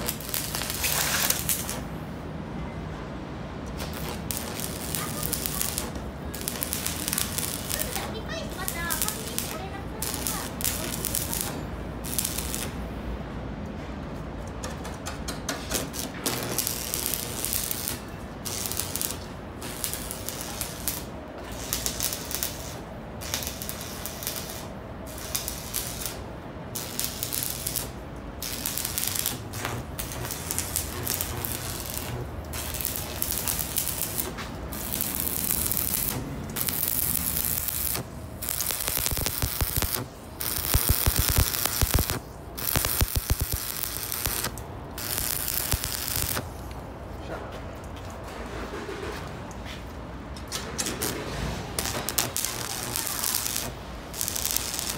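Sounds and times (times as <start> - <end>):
welding arc crackling and sizzling: 0.0 - 2.0, 3.7 - 13.0, 15.5 - 46.8, 50.8 - 54.9.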